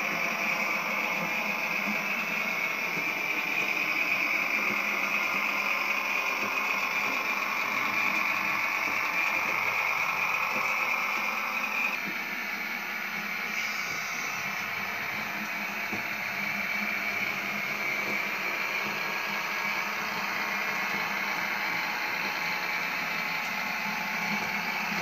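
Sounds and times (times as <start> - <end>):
diesel railcar engine sound from small speaker: 0.0 - 25.0
whirr of model running gear: 0.0 - 25.0.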